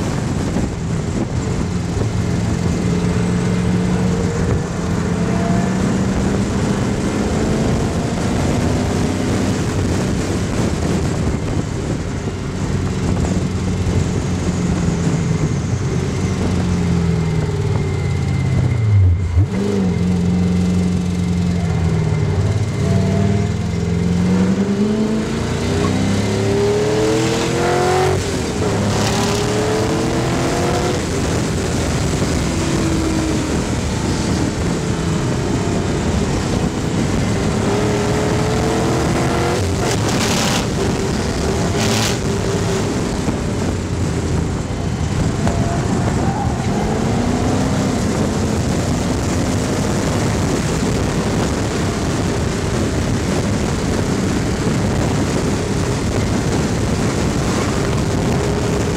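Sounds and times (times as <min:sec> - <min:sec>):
heavy wind rush: 0:00.0 - 0:58.9
race car engine at full throttle: 0:00.0 - 0:58.9.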